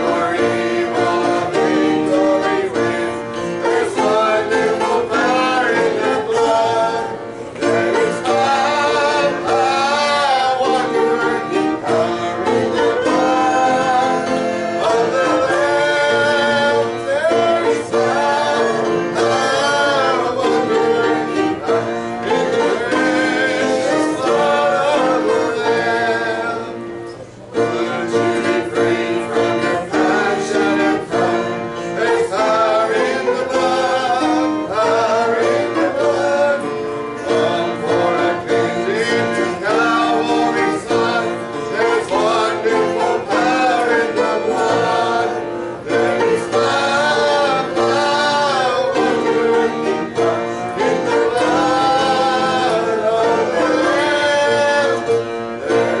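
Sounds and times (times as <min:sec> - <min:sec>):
guitar and banjo playing: 0:00.0 - 0:56.0.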